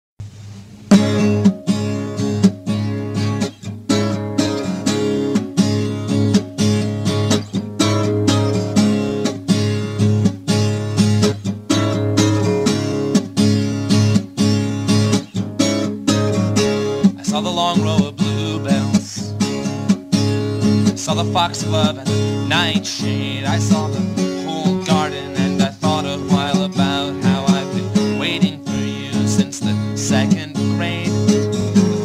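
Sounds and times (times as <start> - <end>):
acoustic guitar strumming: 0.2 - 32.0.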